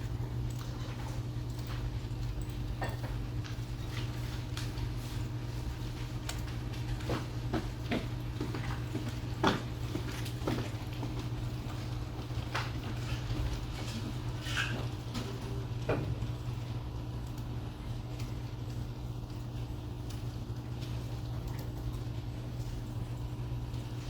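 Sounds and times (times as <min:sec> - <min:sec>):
low hum of room machinery: 0:00.0 - 0:24.0.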